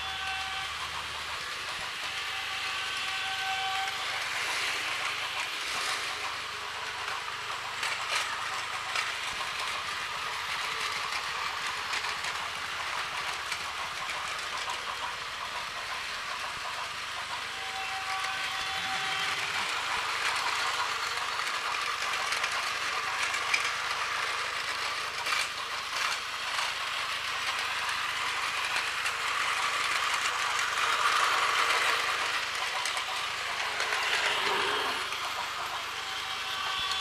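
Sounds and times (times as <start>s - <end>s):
toy train motors whirring: 0.0s - 37.0s
wheels clicking on plastic track: 0.0s - 37.0s.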